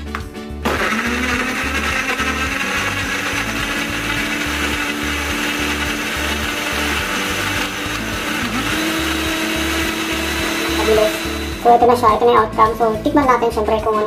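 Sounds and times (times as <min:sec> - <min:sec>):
background music with low beat: 0:00.0 - 0:14.0
blender running: 0:00.6 - 0:12.2.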